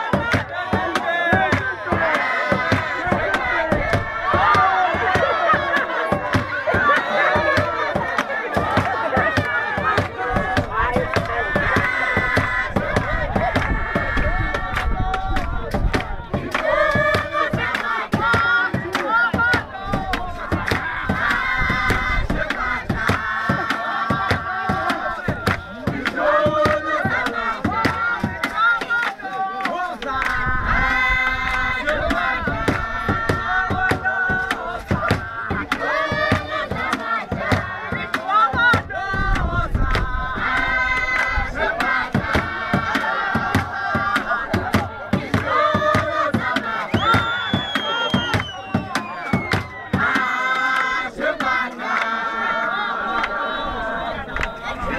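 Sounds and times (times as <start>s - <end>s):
high voices singing and chanting: 0.0s - 54.9s
sharp hand claps: 0.2s - 30.4s, 31.4s - 52.1s.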